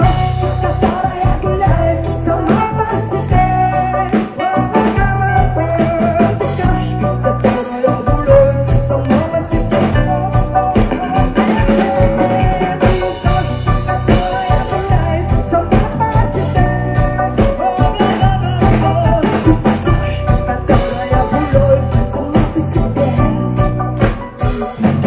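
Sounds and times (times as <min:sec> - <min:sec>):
drum kit beat: 0:00.0 - 0:25.0
live rock band playing: 0:00.0 - 0:25.0.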